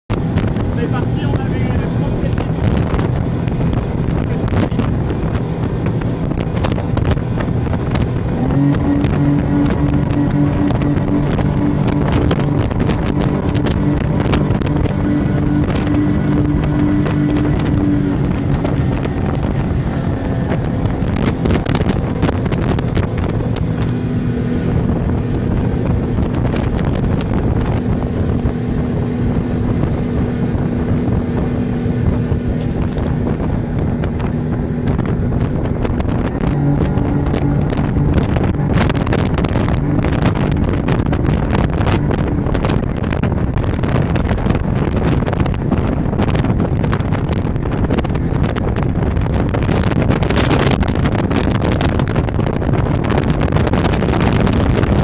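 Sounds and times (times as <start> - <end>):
motorboat engine running: 0.0 - 55.0
wind buffeting microphone: 0.0 - 55.0.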